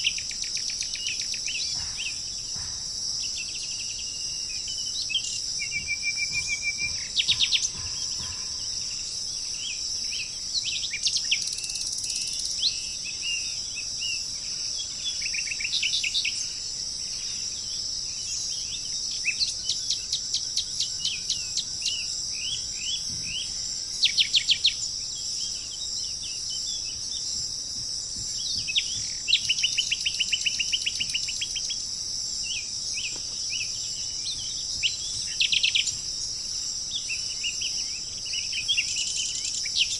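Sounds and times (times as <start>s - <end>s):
birds chirping and trilling: 0.0s - 39.9s
insects droning: 0.0s - 39.9s.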